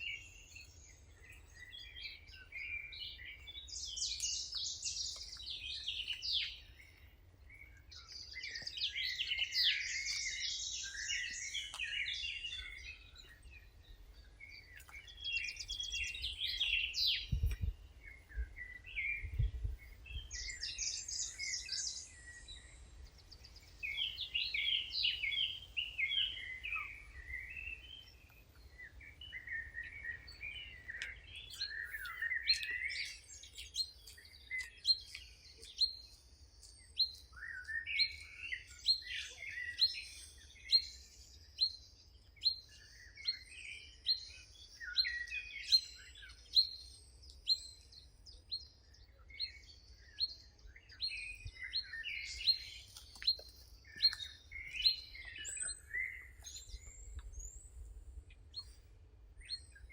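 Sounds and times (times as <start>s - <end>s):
songbirds twittering: 0.0s - 59.9s.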